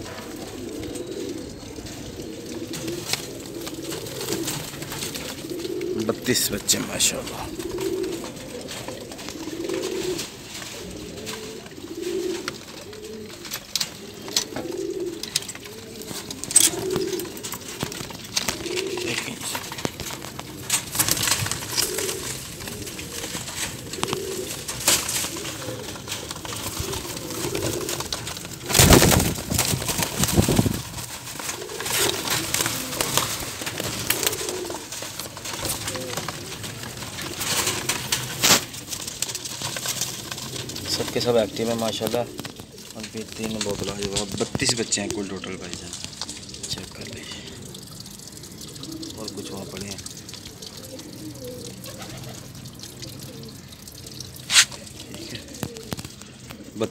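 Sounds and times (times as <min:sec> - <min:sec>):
pigeons cooing: 0:00.0 - 0:56.9.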